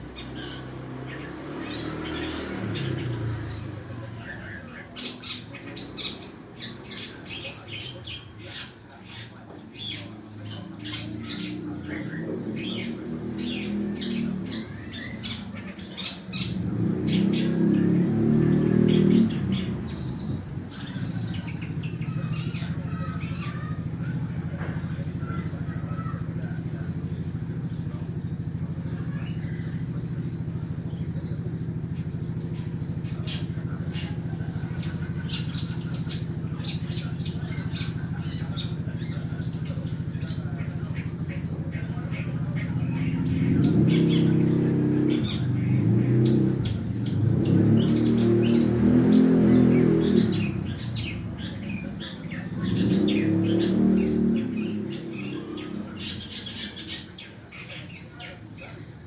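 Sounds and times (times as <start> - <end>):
bird chirping and squawking: 0.0 - 59.0.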